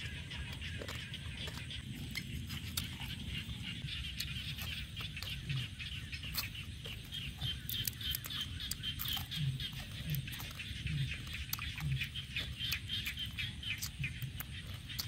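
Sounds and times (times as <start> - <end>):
high-pitched chirping chorus: 0.0 - 15.0
man chewing with smacks: 0.0 - 15.0.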